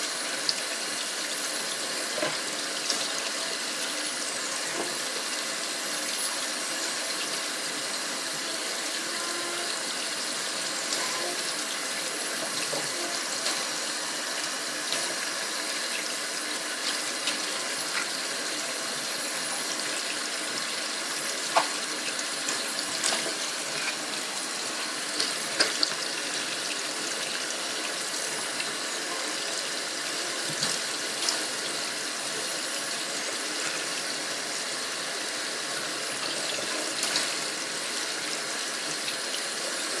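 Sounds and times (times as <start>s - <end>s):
water splashing in washing machine: 0.0s - 40.0s.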